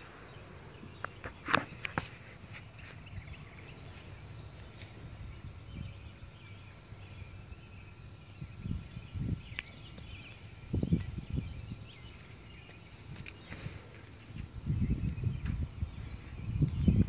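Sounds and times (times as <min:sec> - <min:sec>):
faint bird twitter: 0:00.0 - 0:17.0
low wind rumble: 0:00.0 - 0:17.0.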